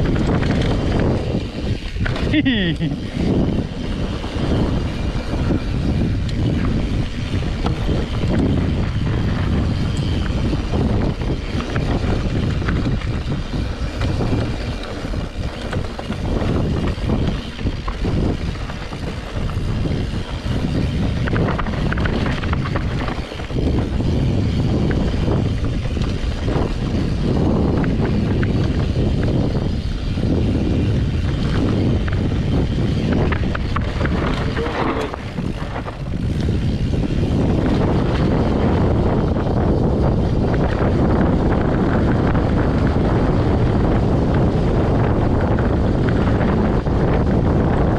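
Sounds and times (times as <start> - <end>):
bike clicking and rattling: 0.0 - 47.9
wind buffeting microphone: 0.0 - 47.9.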